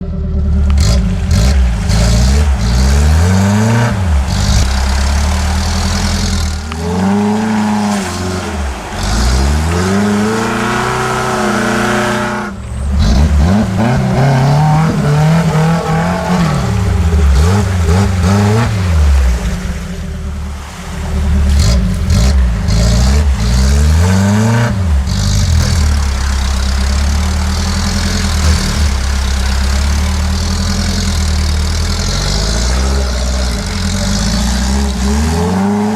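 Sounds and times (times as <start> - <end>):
engine revving: 0.0 - 35.9.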